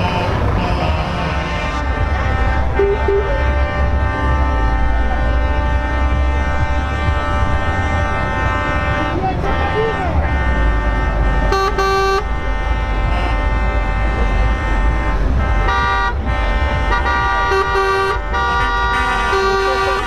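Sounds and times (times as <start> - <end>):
heavy engines rumbling: 0.0 - 20.0
truck air horns: 0.0 - 20.0.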